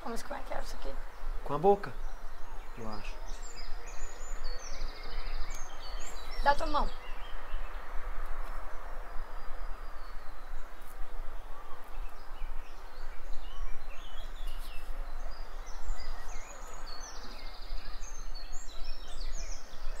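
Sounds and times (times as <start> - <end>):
background hiss: 0.0 - 20.0
birds chirping: 0.0 - 20.0.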